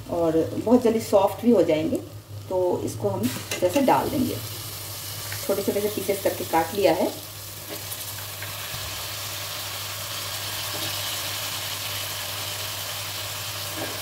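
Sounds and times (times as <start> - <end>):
low steady hum: 0.0 - 12.0
food sizzling in hot oil: 0.0 - 14.0.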